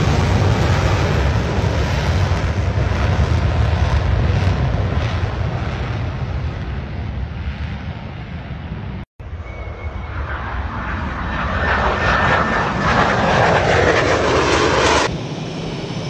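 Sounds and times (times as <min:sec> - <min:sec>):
jet engines and rushing air: 0:00.0 - 0:16.0.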